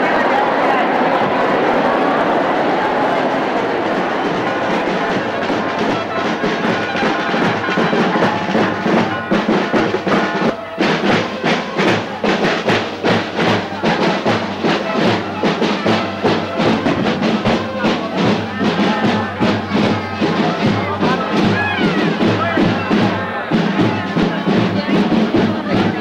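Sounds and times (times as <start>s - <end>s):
drums beating: 0.0s - 26.0s
band music: 0.1s - 26.0s.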